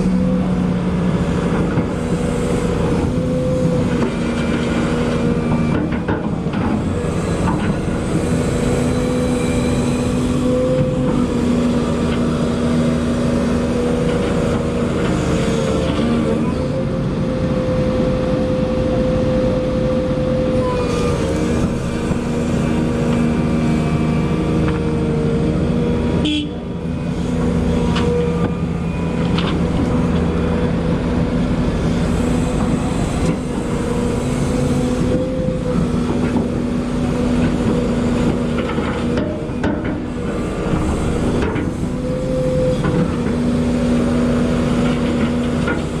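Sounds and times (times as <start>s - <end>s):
excavator diesel engine under load: 0.0s - 46.0s.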